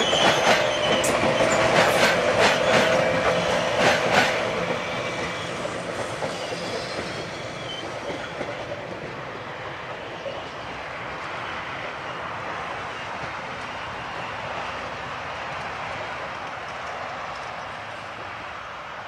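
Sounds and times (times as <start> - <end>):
electric train running on rails: 0.0 - 19.0.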